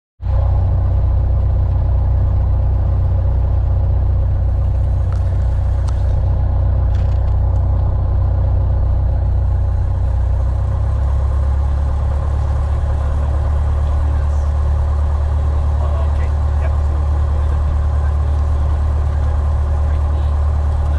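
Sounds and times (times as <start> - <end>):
propeller plane engine drone: 0.2 - 20.9.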